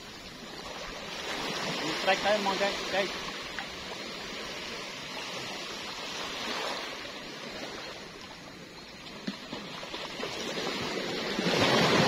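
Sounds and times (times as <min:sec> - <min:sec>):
small waves lapping: 0:00.0 - 0:12.0.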